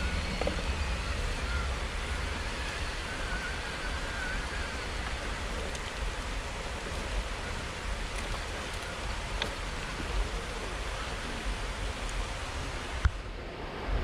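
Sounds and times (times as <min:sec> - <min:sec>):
faint wavering whine: 0:00.0 - 0:14.0
low fluttering rumble: 0:00.0 - 0:14.0
water rushing: 0:00.0 - 0:14.0.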